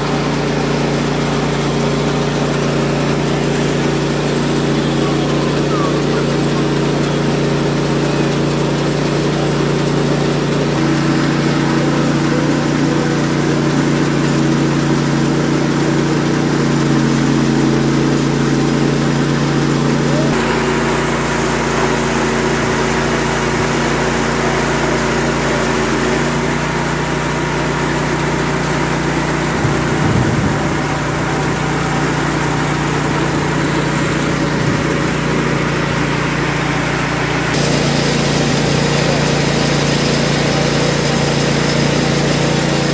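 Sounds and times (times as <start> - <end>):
rice milling machine drone: 0.0 - 42.9.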